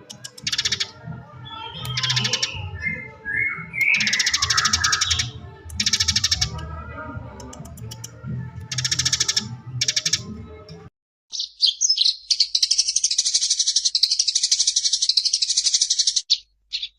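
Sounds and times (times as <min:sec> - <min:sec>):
sparrow chirps: 0:00.0 - 0:06.6, 0:07.5 - 0:10.3, 0:11.3 - 0:16.9
sparrows rattling chatter: 0:00.0 - 0:06.7, 0:07.4 - 0:10.3, 0:11.3 - 0:16.9.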